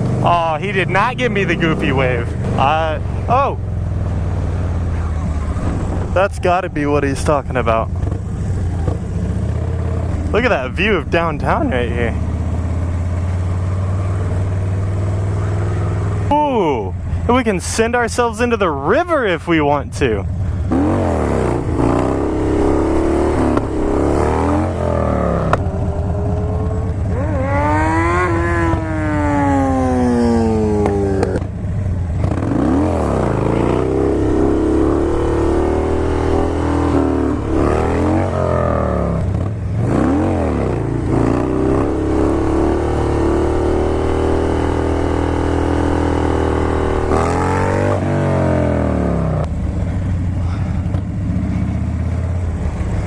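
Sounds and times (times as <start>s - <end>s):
motorcycle engine revving: 0.0s - 17.4s, 20.0s - 53.0s.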